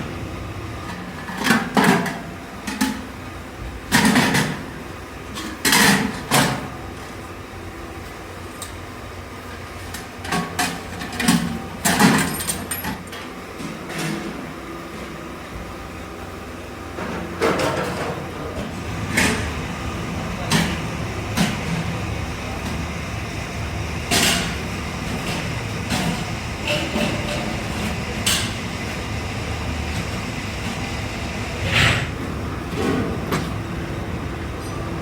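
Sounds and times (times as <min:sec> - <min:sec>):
factory machinery humming: 0:00.0 - 0:35.0.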